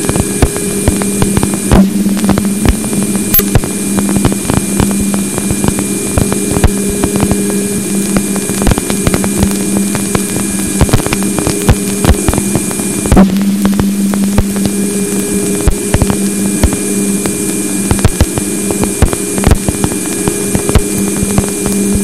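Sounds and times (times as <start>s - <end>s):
irregular thumps and clicks: 0.0s - 22.0s
low steady hum: 0.0s - 22.0s
steady hiss with constant tone: 0.0s - 22.0s.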